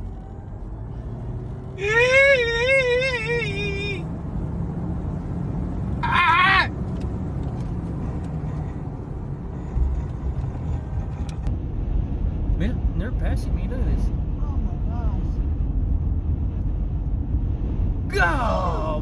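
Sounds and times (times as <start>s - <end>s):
vehicle rumbling on road: 0.0s - 19.0s.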